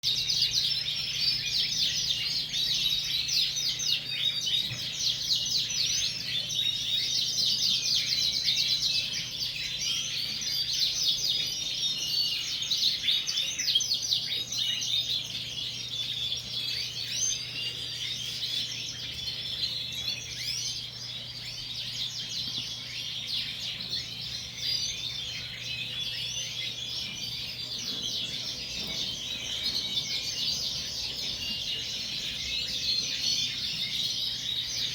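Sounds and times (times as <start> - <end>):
canaries chirping and singing: 0.0 - 34.9.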